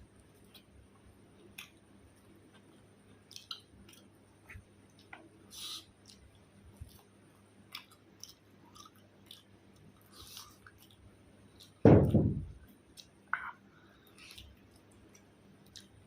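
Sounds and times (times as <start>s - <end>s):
person chewing food: 0.1s - 11.8s, 12.6s - 16.0s.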